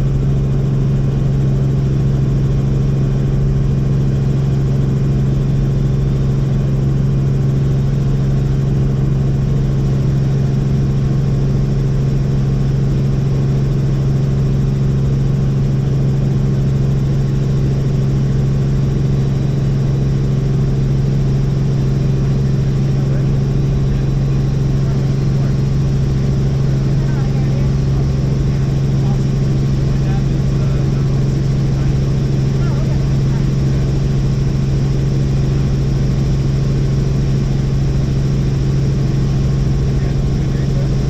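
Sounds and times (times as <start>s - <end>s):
helicopter drone: 0.0s - 41.0s.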